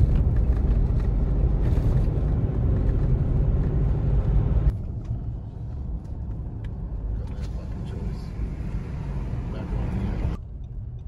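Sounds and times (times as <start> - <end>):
road and wind rumble: 0.0 - 11.0
road hum inside cabin: 0.0 - 11.0.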